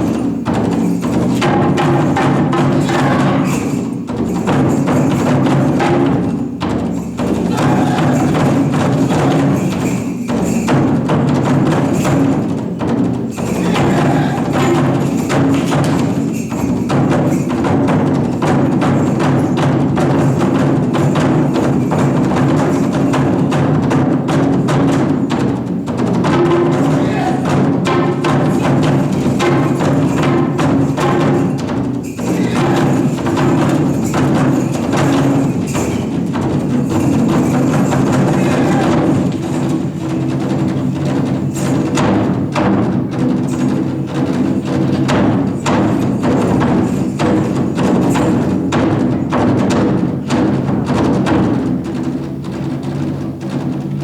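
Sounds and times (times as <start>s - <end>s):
taiko drum ensemble playing: 0.0s - 54.0s.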